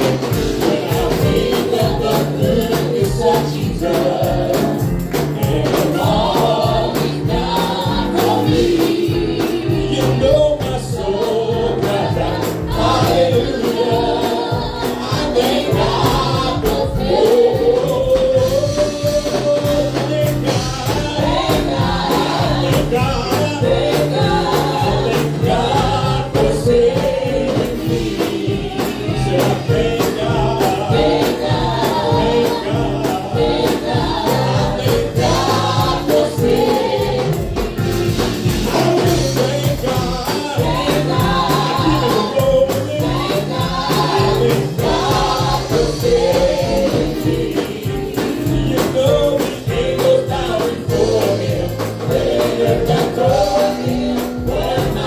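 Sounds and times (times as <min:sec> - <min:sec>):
band with steady percussion: 0:00.0 - 0:55.0
choir and congregation singing: 0:00.0 - 0:55.0.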